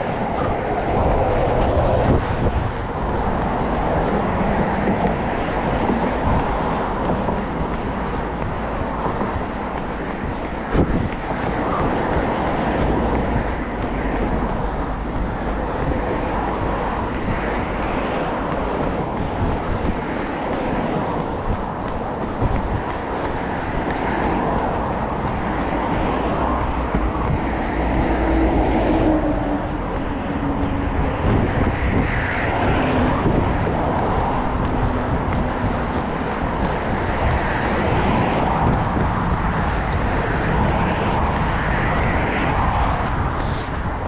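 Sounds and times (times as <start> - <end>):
vehicle road noise: 0.0 - 44.0.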